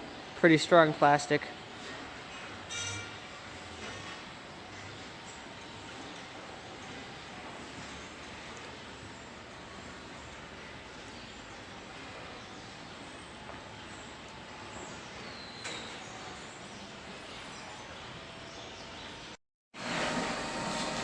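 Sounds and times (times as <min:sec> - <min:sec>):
barn background noise: 0:00.0 - 0:19.4.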